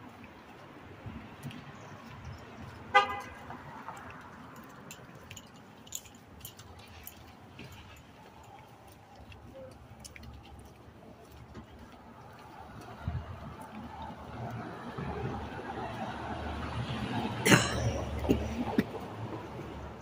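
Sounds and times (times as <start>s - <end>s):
street ambience low rumble: 0.0s - 20.0s.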